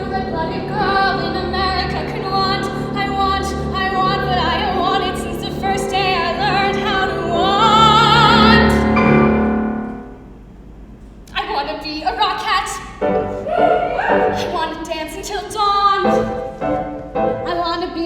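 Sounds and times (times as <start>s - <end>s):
woman singing operatically: 0.0s - 9.0s, 11.3s - 16.5s, 17.4s - 18.0s
piano accompaniment: 0.0s - 10.4s, 13.0s - 18.0s.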